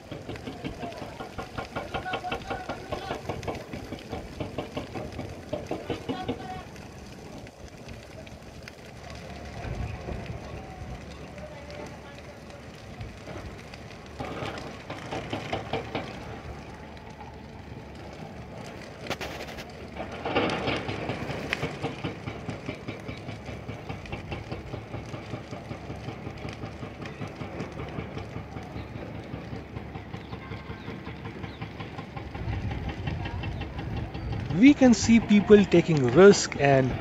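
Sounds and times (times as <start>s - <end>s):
burning bushes crackling: 0.0s - 37.0s.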